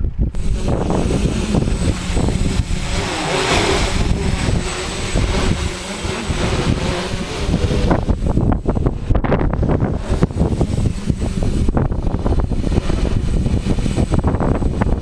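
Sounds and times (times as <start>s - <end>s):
drone motors and propellers: 0.0s - 15.0s
wind buffeting microphone: 0.0s - 15.0s.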